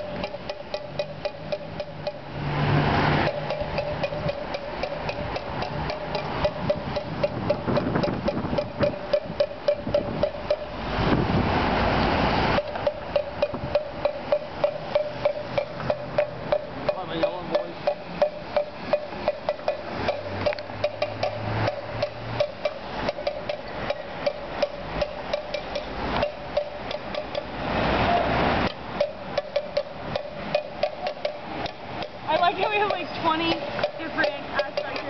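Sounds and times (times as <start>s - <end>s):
hand-struck percussion noisemaker: 0.0s - 35.0s
traffic hum: 0.0s - 35.0s.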